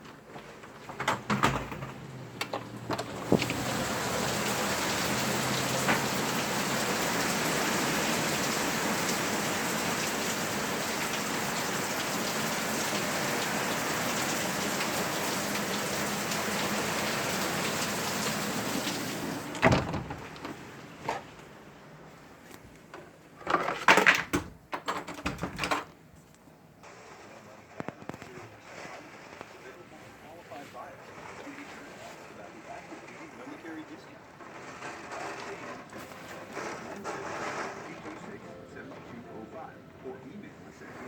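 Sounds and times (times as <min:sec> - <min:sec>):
irregular clattering and crackling: 0:00.0 - 0:07.6, 0:12.8 - 0:21.6, 0:22.4 - 0:41.0
heavy rain falling: 0:00.4 - 0:21.0, 0:26.9 - 0:41.0.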